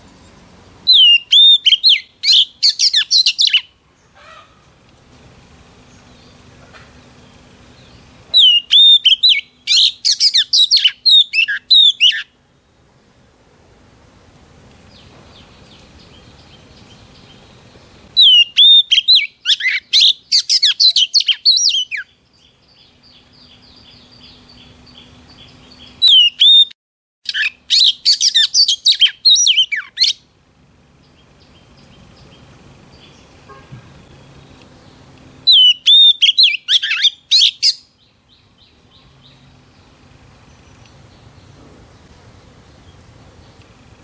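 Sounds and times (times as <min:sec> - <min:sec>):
bird singing loud phrases: 0:00.0 - 0:04.4, 0:05.8 - 0:12.4, 0:14.9 - 0:30.3, 0:31.0 - 0:43.8.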